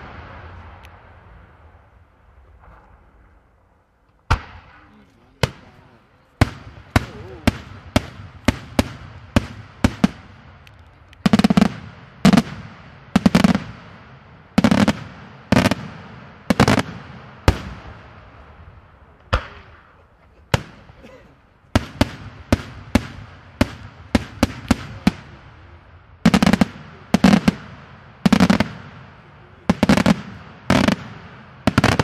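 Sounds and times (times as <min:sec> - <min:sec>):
fireworks bursting with sharp bangs: 0:00.0 - 0:32.0.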